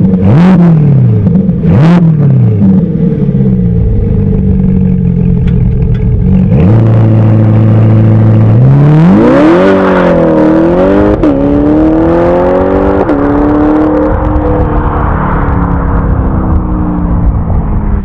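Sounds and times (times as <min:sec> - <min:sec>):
car engine idling and accelerating: 0:00.0 - 0:18.0.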